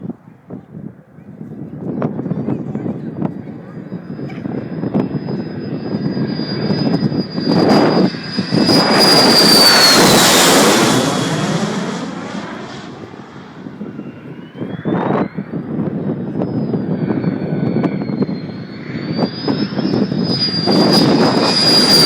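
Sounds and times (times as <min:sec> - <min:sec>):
high jet whine: 0:00.0 - 0:22.0
jet roar flying past: 0:00.8 - 0:22.0.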